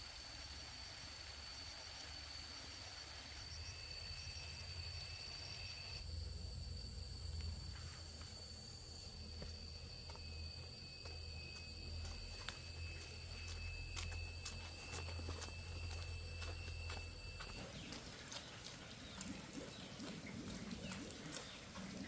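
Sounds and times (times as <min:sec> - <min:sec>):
insects high trill: 0:00.0 - 0:20.0
lower insect trill: 0:00.0 - 0:22.0.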